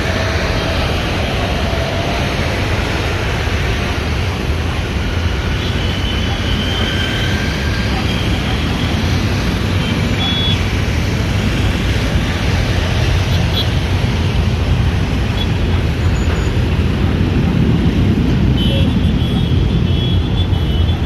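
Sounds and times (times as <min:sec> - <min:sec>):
jet engines at takeoff: 0:00.0 - 0:20.3.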